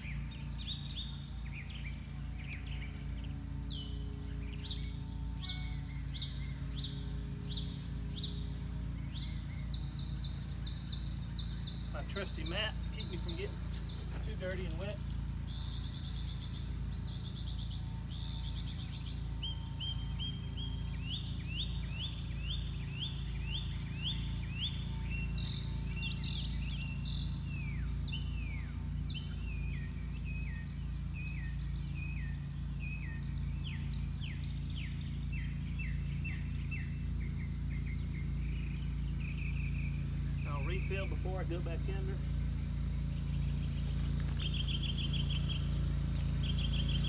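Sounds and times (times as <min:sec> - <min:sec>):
songbird singing: 0:00.0 - 0:47.0
steady low hum: 0:00.0 - 0:47.0.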